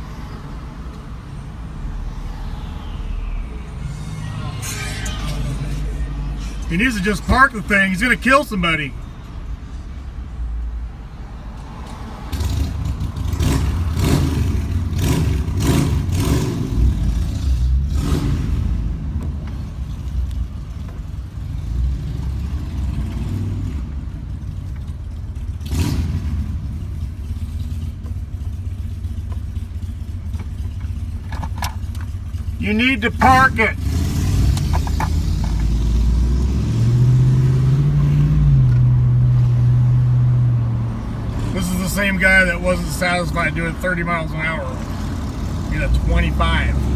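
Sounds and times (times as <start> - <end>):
vehicle engine and road noise: 0.0 - 46.9.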